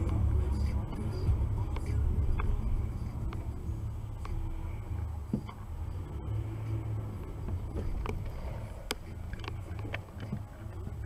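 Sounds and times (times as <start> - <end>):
car engine and tyres rumble: 0.0 - 11.0.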